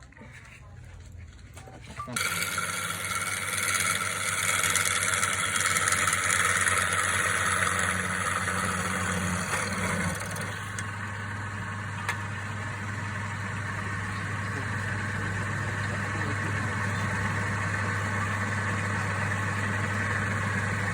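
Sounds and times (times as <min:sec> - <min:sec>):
lathe motor humming: 0:02.1 - 0:20.9.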